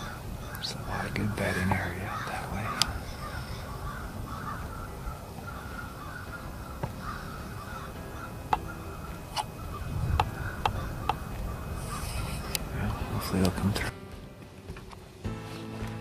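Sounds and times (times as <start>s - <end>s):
crows cawing: 0.0s - 13.9s.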